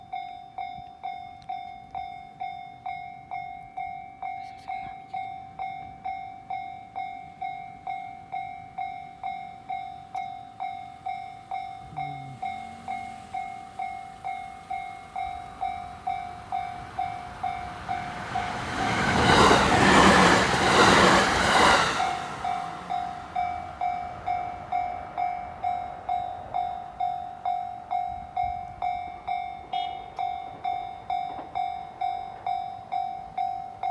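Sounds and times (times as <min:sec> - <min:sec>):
electric train passing: 0:05.6 - 0:33.9.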